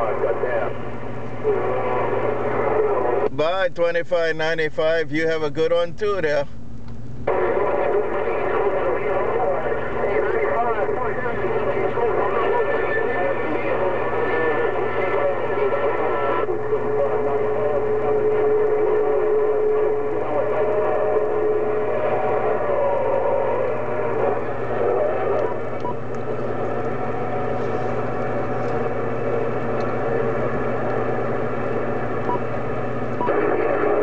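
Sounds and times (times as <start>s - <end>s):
faint garbled radio signals: 0.0s - 6.6s, 7.2s - 34.0s
radio static and hiss: 0.0s - 6.6s, 7.2s - 34.0s
steady radio whistle: 1.4s - 3.3s, 7.3s - 32.5s, 33.2s - 34.0s.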